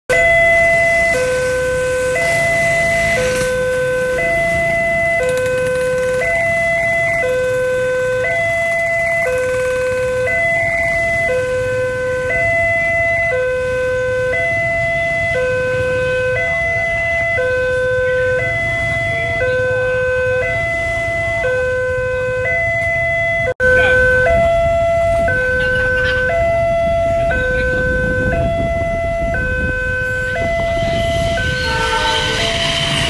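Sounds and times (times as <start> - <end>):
two-tone crossing warning alarm: 0.1 - 33.0.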